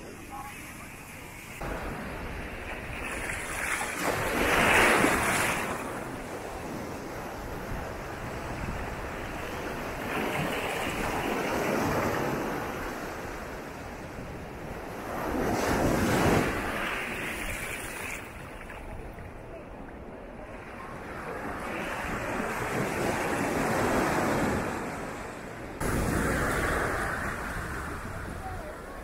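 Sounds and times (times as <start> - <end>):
small ocean waves breaking: 0.0 - 29.0.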